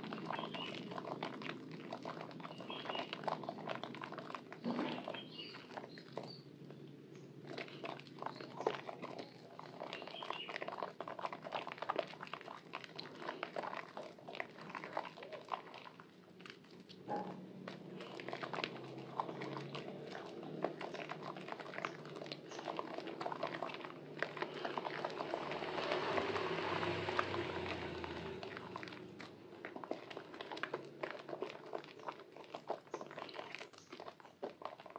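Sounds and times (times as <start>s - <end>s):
small wet pops and squishes: 0.0s - 34.9s
soap squelching in hands: 0.0s - 34.9s.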